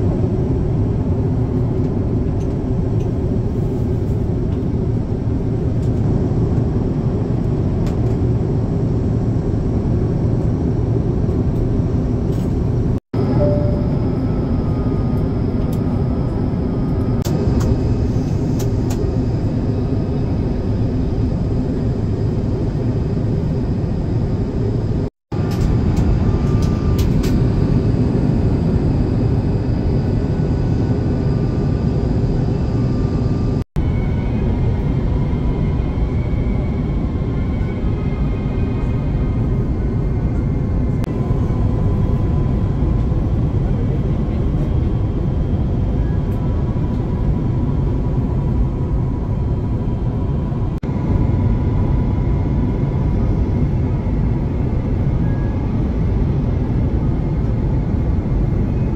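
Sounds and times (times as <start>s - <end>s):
airplane cabin roar: 0.0s - 58.9s.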